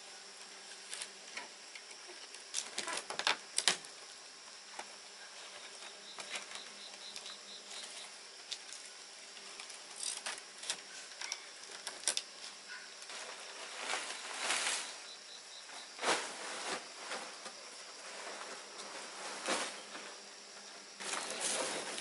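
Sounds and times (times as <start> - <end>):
palm thatch rustling and crackling: 0.0 - 22.0.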